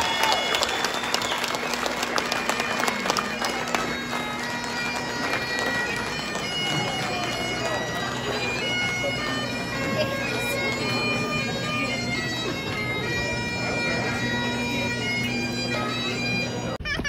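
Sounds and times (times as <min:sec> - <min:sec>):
bagpipes playing: 0:00.0 - 0:17.0.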